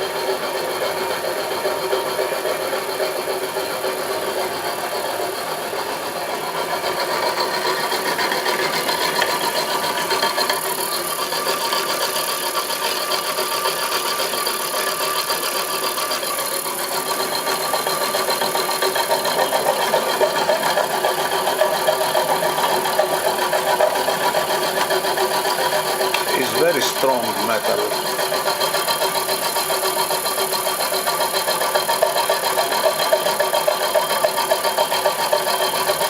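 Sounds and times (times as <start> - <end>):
milling machine whine and rattle: 0.0 - 36.0.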